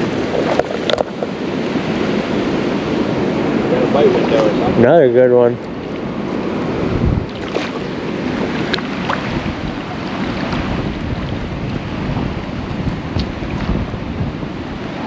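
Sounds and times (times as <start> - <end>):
flowing creek water: 0.0 - 15.0
wind rushing on microphone: 0.0 - 15.0.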